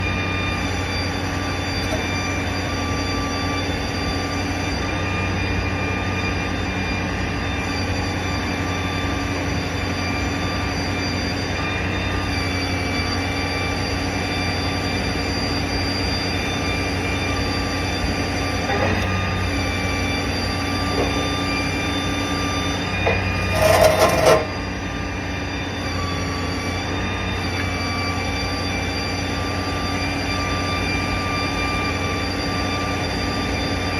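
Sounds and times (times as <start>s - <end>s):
heavy machinery droning: 0.0s - 33.9s.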